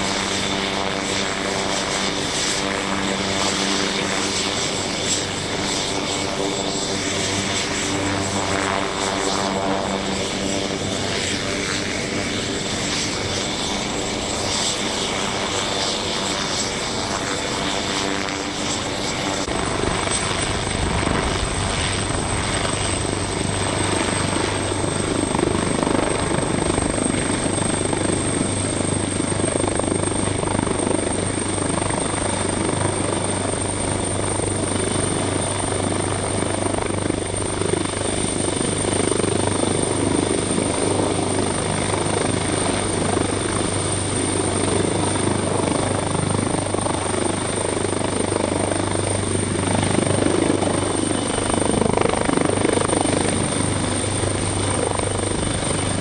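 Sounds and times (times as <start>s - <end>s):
helicopter rotor rush: 0.0s - 56.0s
helicopter turbine whine: 0.0s - 56.0s.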